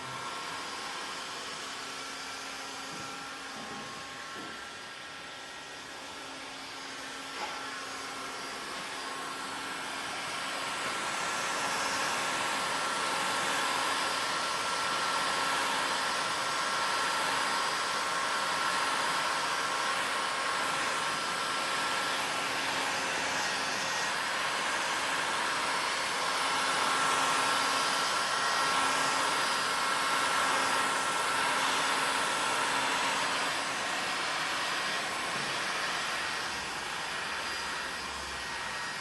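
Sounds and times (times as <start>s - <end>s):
heat gun blowing: 5.8s - 39.0s.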